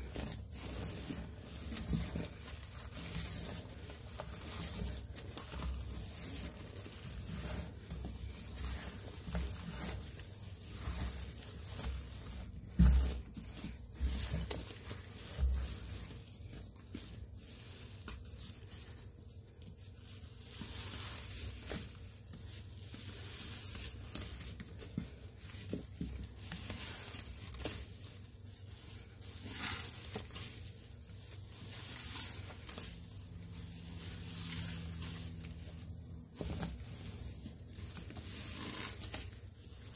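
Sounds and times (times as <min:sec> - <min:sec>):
wet squishing sponges: 0:00.0 - 0:39.9.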